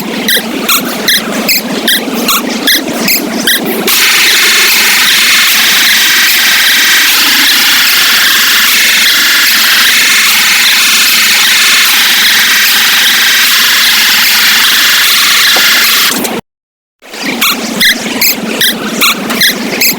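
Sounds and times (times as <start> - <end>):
harsh distorted electronic alarm: 0.2 - 16.2, 17.4 - 19.9.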